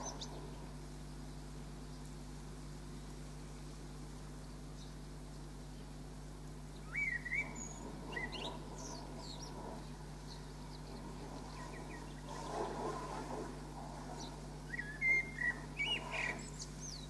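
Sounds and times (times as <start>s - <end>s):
songbird calls: 0.0s - 2.2s, 4.3s - 6.0s, 6.6s - 17.0s
steady low hum: 0.0s - 17.0s.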